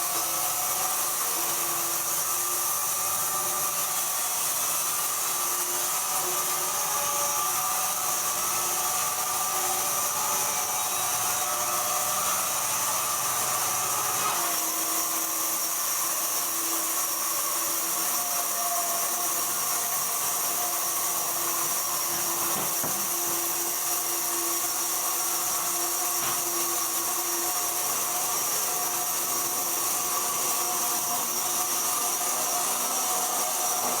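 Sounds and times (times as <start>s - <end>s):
sawmill machinery running: 0.0s - 34.0s.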